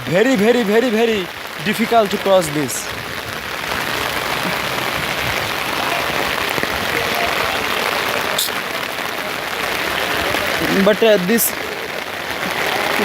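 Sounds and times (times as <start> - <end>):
steady rain pattering: 0.0 - 13.0.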